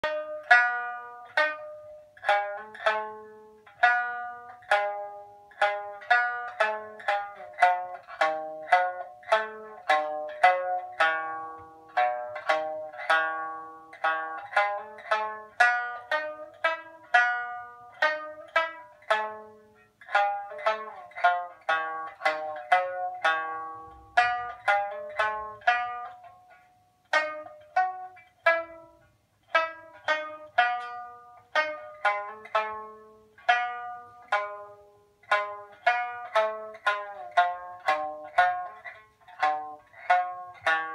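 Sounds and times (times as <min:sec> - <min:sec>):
plucked lute melody: 0:00.0 - 0:40.9.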